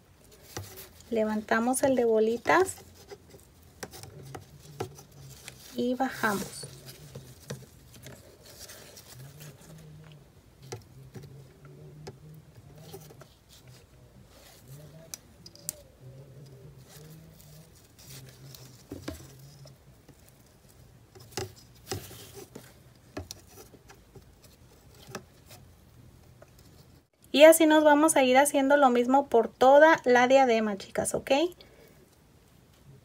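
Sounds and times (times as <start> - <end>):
ribbon rustling: 0.0 - 27.1
faint low hum: 0.0 - 28.0.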